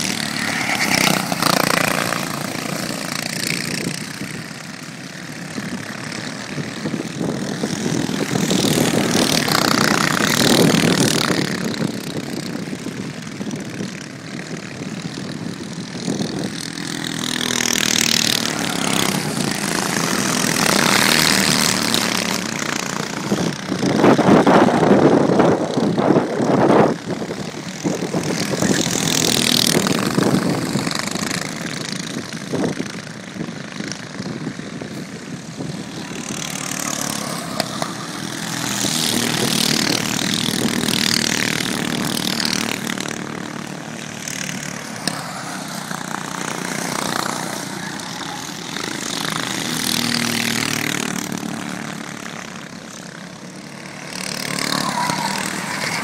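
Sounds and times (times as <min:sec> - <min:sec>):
racing kart engines passing: 0:00.0 - 0:56.0.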